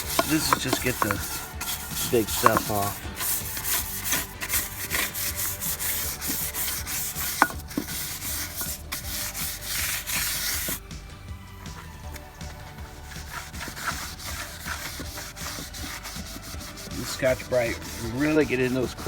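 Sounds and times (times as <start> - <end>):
scrubbing wet wheel rim: 0.0 - 19.0.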